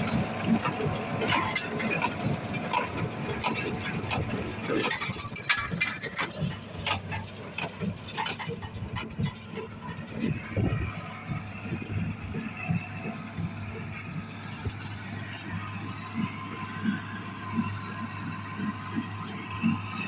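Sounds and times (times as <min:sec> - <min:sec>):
farm machinery rattling: 0:00.0 - 0:20.0
low engine hum: 0:00.0 - 0:20.0.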